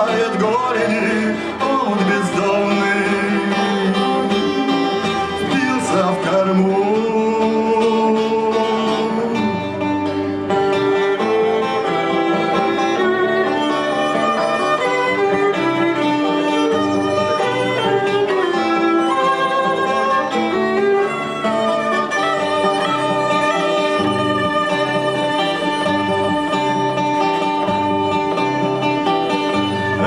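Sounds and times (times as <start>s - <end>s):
guitar accompaniment: 0.0s - 30.0s
violin melody: 0.0s - 30.0s.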